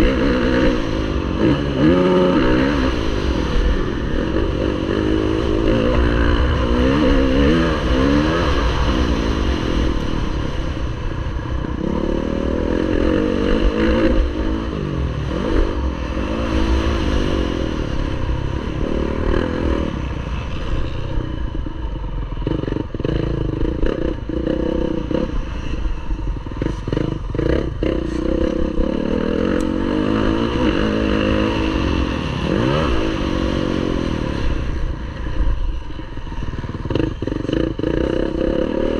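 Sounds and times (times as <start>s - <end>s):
motocross bike engine revving: 0.0s - 25.8s, 26.4s - 35.5s, 36.1s - 38.9s.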